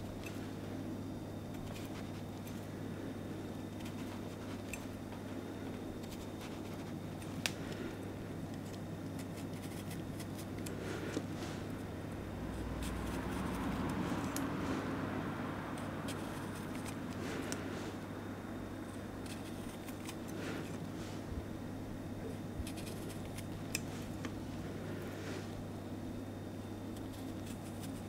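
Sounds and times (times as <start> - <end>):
knife shaving carrot: 0.0 - 15.1, 15.7 - 18.1, 18.8 - 21.3, 22.2 - 25.6, 26.9 - 28.0
steady low hum: 0.0 - 28.0.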